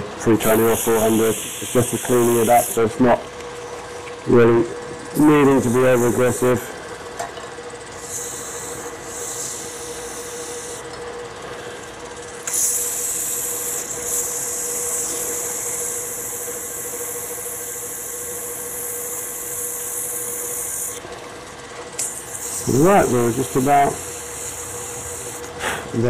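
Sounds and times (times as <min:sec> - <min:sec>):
lathe humming: 0:00.0 - 0:26.0.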